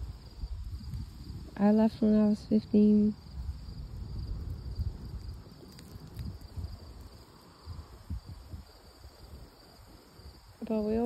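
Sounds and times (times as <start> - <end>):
campfire crackling: 0.0 - 11.0
crickets chirping: 0.0 - 11.0.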